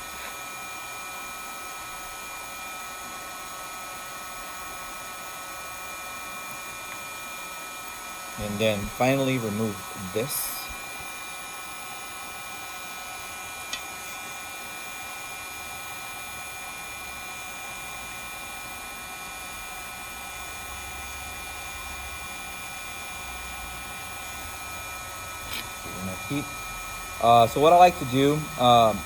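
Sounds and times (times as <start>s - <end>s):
heat gun blowing: 0.0s - 29.0s.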